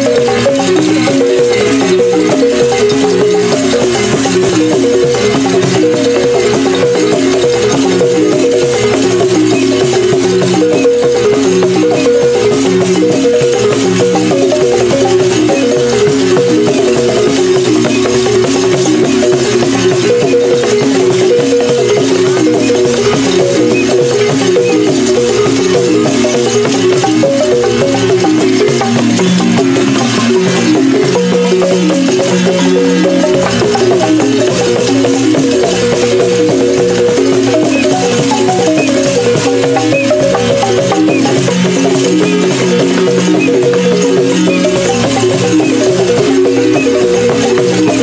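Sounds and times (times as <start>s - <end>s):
shaken rattles: 0.0s - 48.0s
wooden xylophones playing melody: 0.0s - 48.0s.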